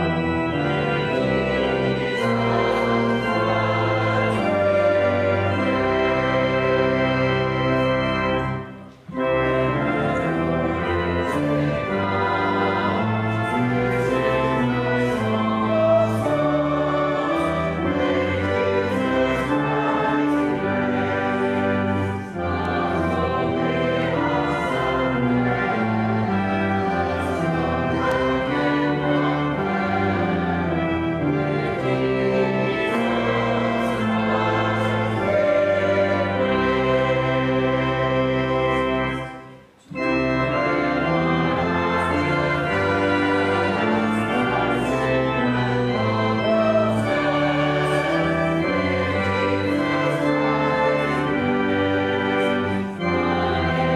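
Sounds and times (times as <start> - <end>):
church organ playing chords: 0.0 - 53.9.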